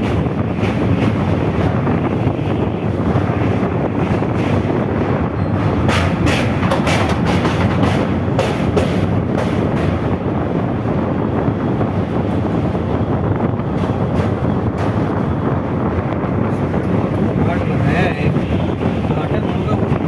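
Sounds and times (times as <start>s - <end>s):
sharp clacks of train wheels: 0.0s - 10.6s, 12.1s - 20.0s
train wheels rumbling on rails: 0.0s - 20.0s.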